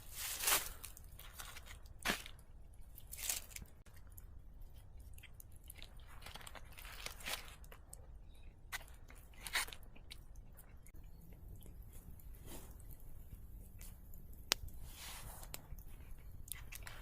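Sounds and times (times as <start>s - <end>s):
short crunches and crackles: 0.0s - 17.0s.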